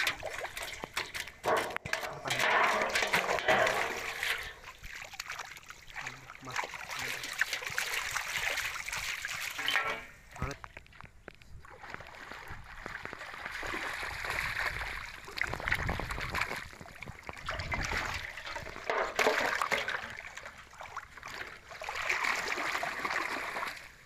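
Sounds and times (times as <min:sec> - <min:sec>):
water splashing from wading: 0:00.0 - 0:10.8, 0:11.6 - 0:24.0
handling items in water basin: 0:00.0 - 0:24.0.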